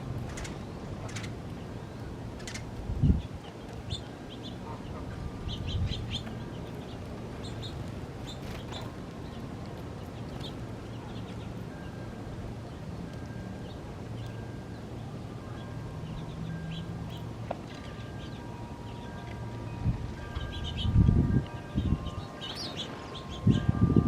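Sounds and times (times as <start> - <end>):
small birds chirping: 0.2 - 23.8.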